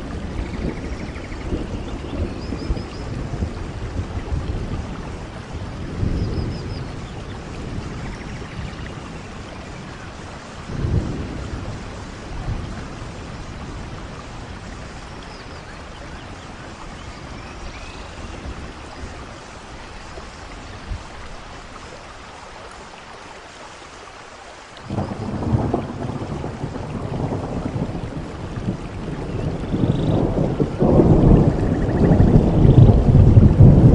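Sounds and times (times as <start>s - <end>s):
thunder rumbling: 0.0s - 21.1s, 24.9s - 33.9s
heavy rain falling: 0.0s - 33.9s.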